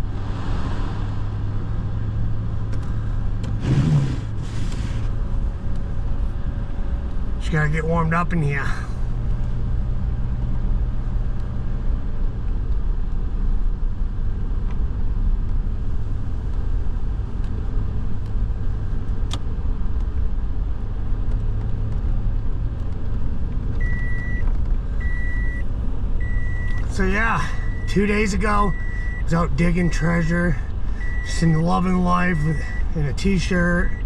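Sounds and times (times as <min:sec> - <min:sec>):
engine rumbling inside cabin: 0:00.0 - 0:34.0.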